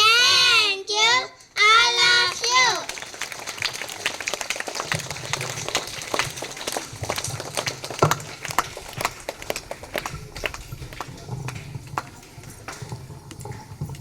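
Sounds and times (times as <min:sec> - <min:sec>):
children clapping: 0:01.6 - 0:14.0.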